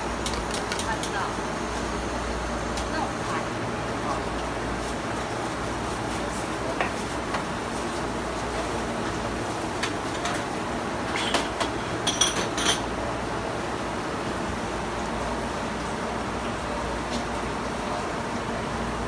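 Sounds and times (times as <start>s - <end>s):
shop background hum: 0.0s - 19.0s.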